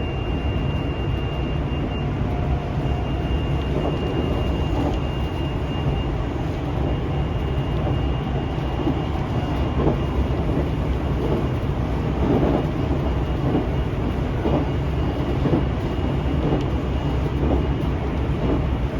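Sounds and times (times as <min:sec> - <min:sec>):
train running rumble: 0:00.0 - 0:18.9.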